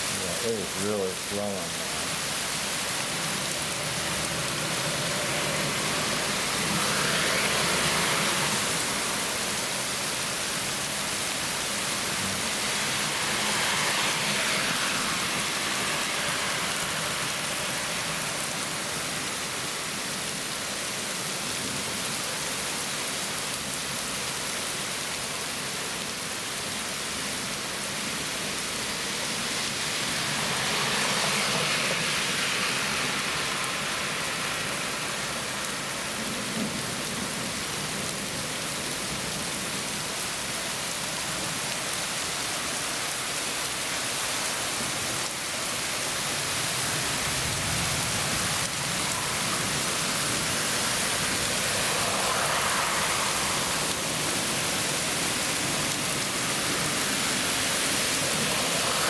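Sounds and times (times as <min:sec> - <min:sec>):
heavy rain pouring on pavement: 0:00.0 - 0:59.0.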